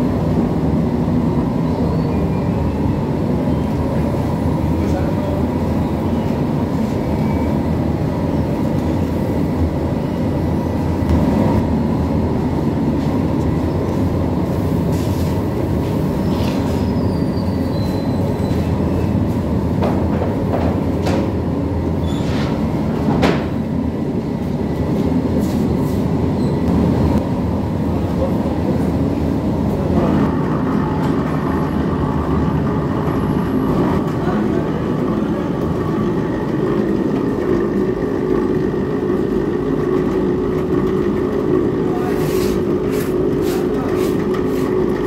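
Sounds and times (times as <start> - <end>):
dough mixer rumbling: 0.0 - 45.0.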